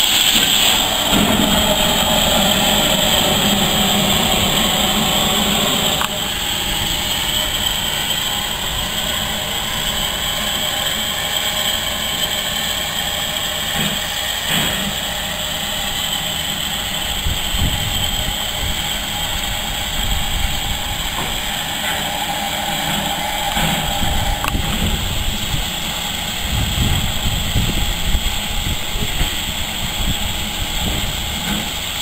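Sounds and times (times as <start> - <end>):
steam locomotive hissing: 0.0 - 32.0
low irregular rumbling: 0.2 - 31.8.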